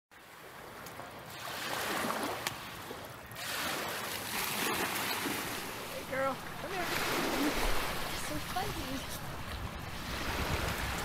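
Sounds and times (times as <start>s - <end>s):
water rushing along boat hull: 0.2s - 11.0s.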